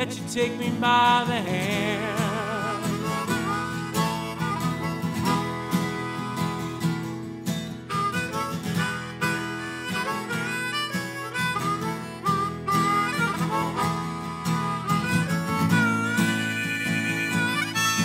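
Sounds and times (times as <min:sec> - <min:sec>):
harmonica melody: 0:00.0 - 0:18.0
strummed acoustic guitar: 0:00.0 - 0:18.0.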